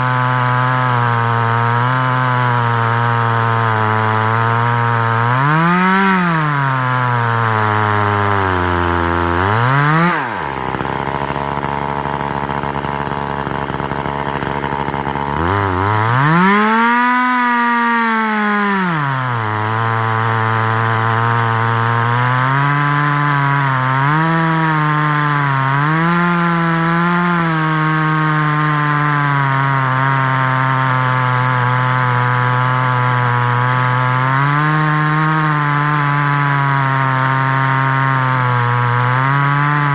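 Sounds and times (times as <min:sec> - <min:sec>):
chainsaw engine revving and cutting: 0:00.0 - 0:39.9.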